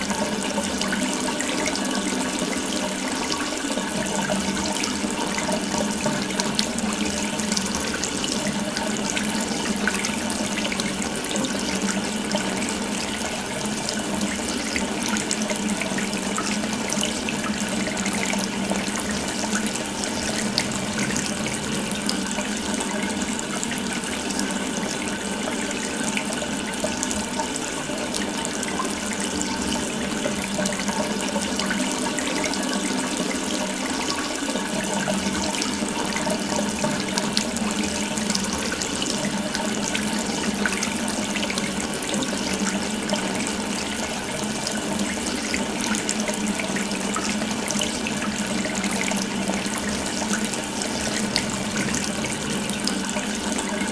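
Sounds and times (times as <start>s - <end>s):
water running from a tap: 0.0s - 53.9s.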